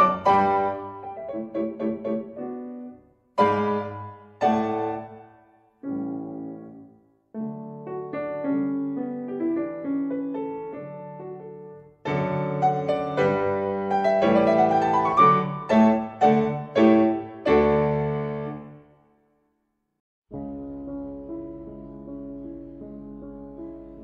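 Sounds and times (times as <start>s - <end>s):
solo piano music: 0.0s - 19.0s, 20.3s - 24.0s.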